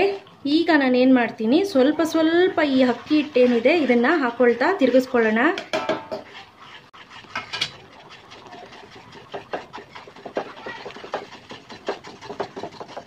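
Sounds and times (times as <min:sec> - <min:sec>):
spatula scraping a pan: 0:01.5 - 0:13.0.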